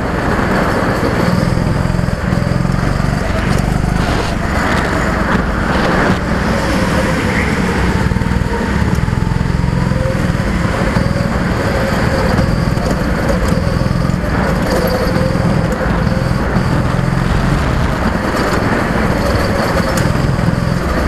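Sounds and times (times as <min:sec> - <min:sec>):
go-kart engines running hard: 0:00.0 - 0:21.0.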